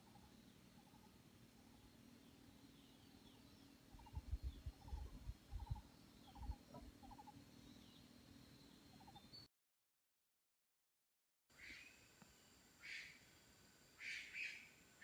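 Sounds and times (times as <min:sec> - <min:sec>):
small forest birds chirping: 0:00.0 - 0:09.5, 0:11.5 - 0:15.0.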